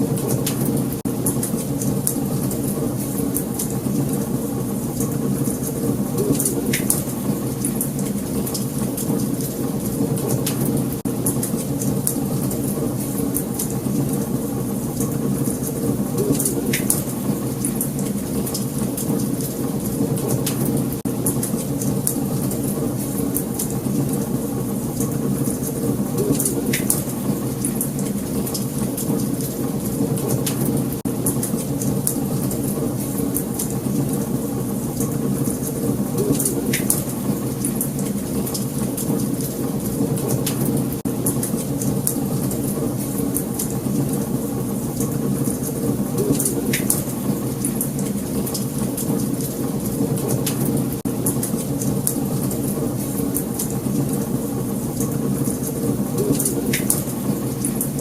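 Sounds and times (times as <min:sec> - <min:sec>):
low rumble of flames: 0:00.0 - 0:58.0
fire crackles and pops: 0:00.1 - 0:57.8.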